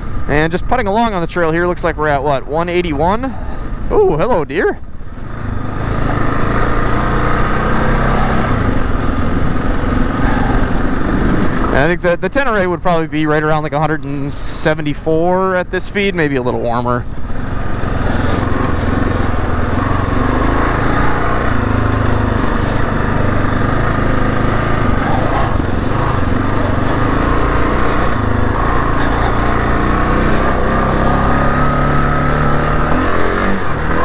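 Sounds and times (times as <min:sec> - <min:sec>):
motorcycle engine running: 0:00.0 - 0:15.3, 0:16.0 - 0:34.0.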